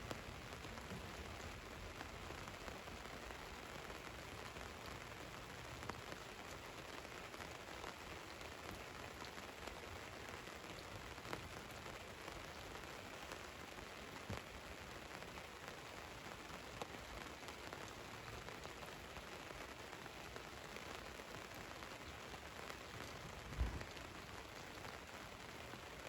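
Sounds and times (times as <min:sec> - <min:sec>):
rain falling on a van: 0:00.0 - 0:26.0.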